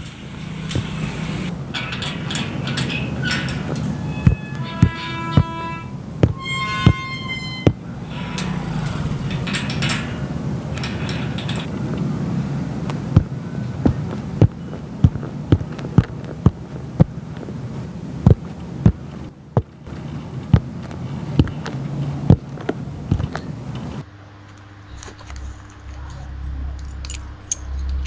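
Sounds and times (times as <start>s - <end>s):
sharp thumps: 0.0s - 24.0s
low steady hum: 0.0s - 28.0s.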